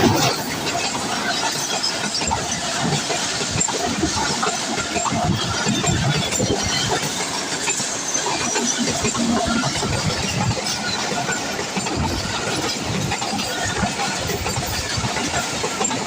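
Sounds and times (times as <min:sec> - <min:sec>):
train cars rumbling and rattling: 0:00.0 - 0:16.0
wheels and couplings knocking: 0:00.0 - 0:16.0.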